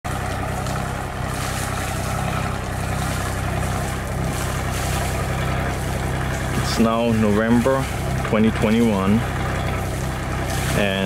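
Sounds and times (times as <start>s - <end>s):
marine diesel engine running: 0.0s - 11.0s.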